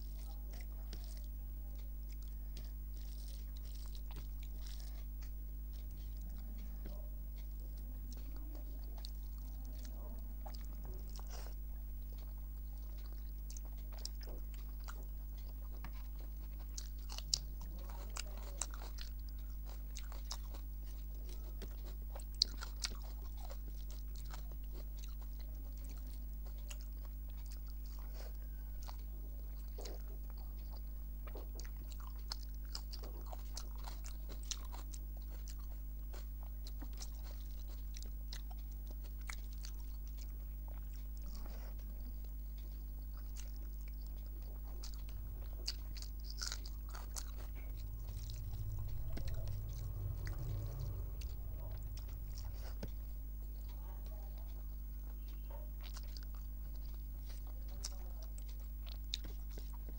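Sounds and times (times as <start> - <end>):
chewing and biting food: 0.0 - 59.9
food crunching: 0.0 - 59.9
steady low hum: 0.0 - 59.9.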